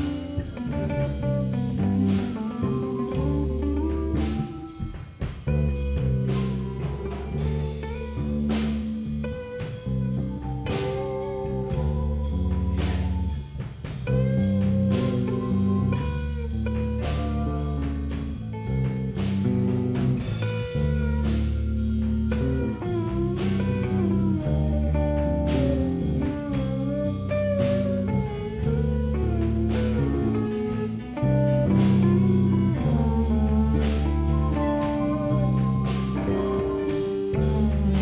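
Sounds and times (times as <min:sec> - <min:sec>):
drum kit beat: 0:00.0 - 0:38.0
electric guitar lines: 0:00.0 - 0:38.0
sustained low notes: 0:00.0 - 0:38.0.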